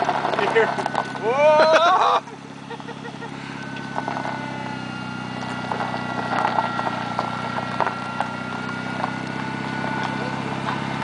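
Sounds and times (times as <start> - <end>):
knocks and clatter over gravel: 0.0 - 1.8, 2.4 - 11.0
lawn mower engine running: 0.0 - 11.0
thin whine: 0.0 - 11.0.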